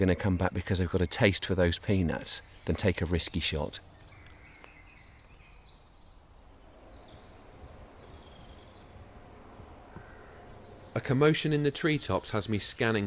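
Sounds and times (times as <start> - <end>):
distant bird calls: 0.0 - 13.0
low background hiss: 0.0 - 13.0.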